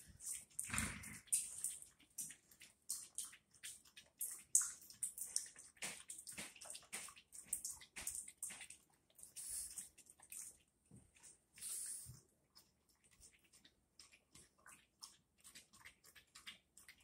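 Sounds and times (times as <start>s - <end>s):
dog lapping water: 0.0s - 17.0s.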